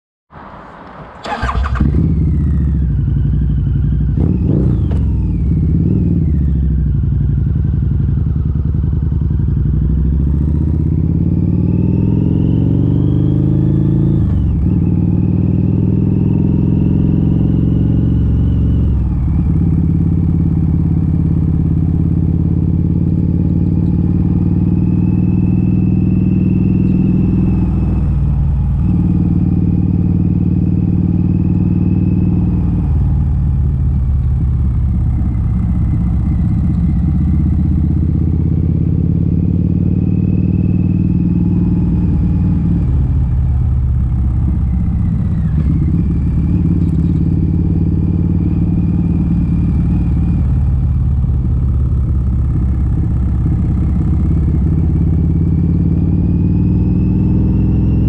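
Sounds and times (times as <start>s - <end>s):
motorcycle engine revving: 1.1s - 58.0s.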